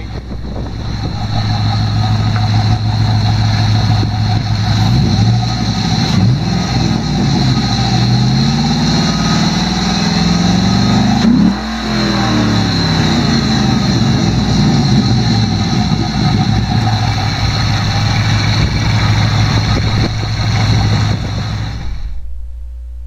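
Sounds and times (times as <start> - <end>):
car engine idling and revving: 0.0 - 22.3.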